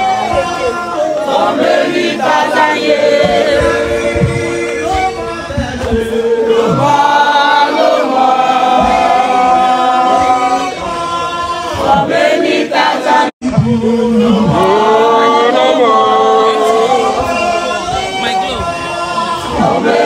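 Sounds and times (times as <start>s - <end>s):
group singing unaccompanied: 0.0s - 20.0s.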